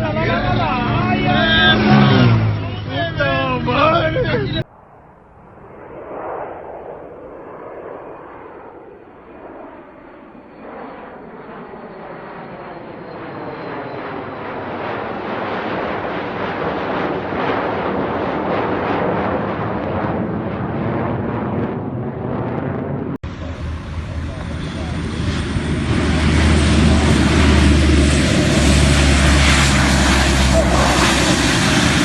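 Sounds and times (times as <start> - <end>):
airplane engine: 0.0 - 32.0.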